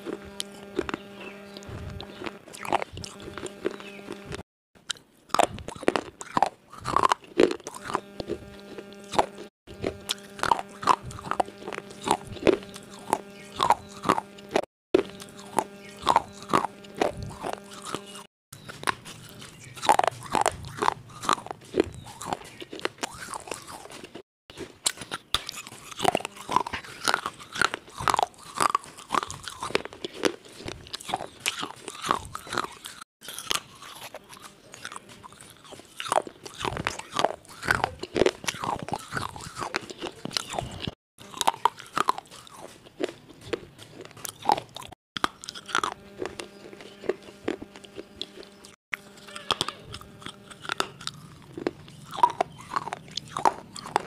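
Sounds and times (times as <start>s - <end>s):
steady hum: 0.0s - 4.4s, 5.3s - 22.4s, 25.4s - 42.6s, 44.8s - 54.0s
chewing crunchy clay pieces: 0.0s - 54.0s.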